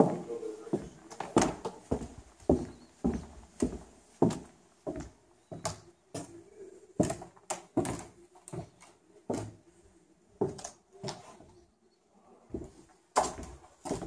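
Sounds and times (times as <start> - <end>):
footsteps on concrete floor: 0.0 - 11.7, 12.5 - 14.0.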